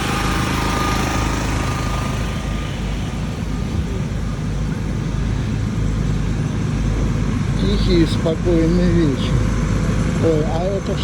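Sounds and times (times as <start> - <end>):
generator engine humming: 0.0 - 11.0.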